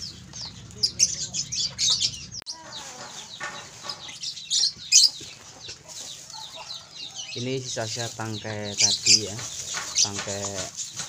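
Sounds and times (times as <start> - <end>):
birds chirping: 0.0 - 11.0
lower bird calls: 0.0 - 11.0.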